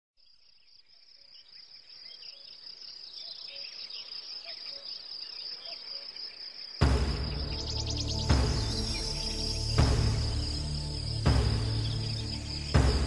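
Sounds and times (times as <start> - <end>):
high-pitched insect chorus: 0.2 - 13.0.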